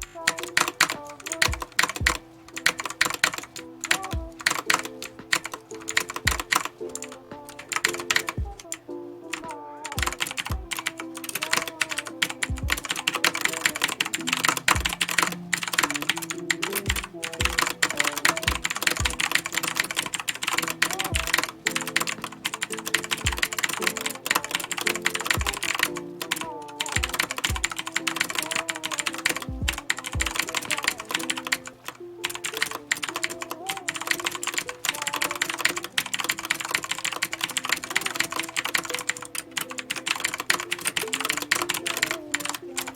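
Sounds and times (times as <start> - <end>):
mechanical keyboard typing: 0.0 - 42.9.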